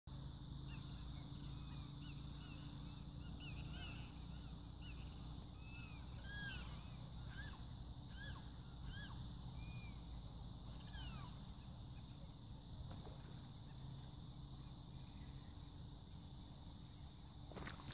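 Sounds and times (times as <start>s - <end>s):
low steady rumble: 0.1s - 17.9s
many birds calling: 0.5s - 17.9s.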